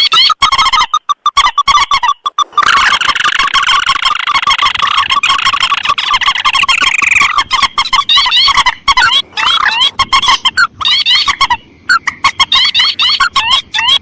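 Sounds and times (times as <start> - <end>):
recorded bird lure calls: 0.0 - 14.0.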